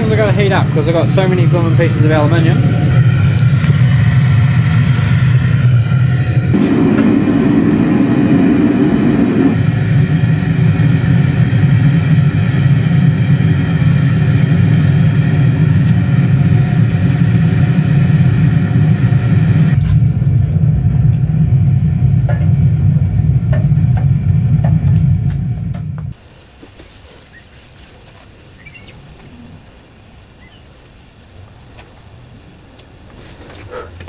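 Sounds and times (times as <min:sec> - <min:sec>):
gas burner rushing rumble: 0:00.0 - 0:34.0.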